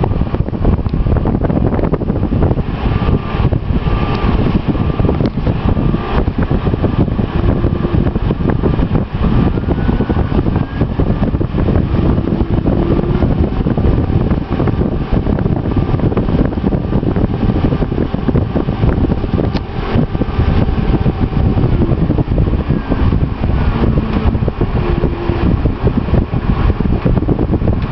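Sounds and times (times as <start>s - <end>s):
servo motor whirring: 2.8s - 27.2s.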